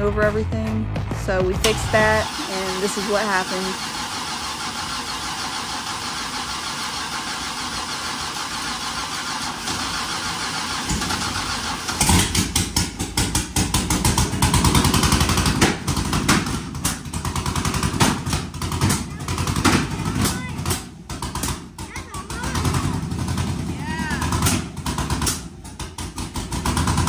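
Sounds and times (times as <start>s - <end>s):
engine running loud: 0.0s - 27.0s
starter motor cranking: 1.6s - 27.0s.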